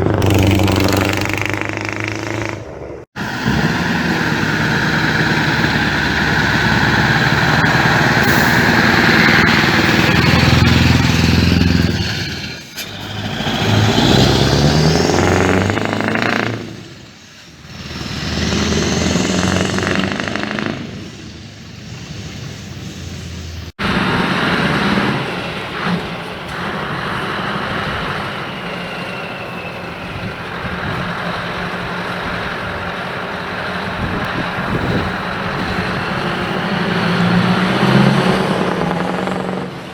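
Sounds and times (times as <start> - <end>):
loud truck engine accelerating: 0.0 - 39.9.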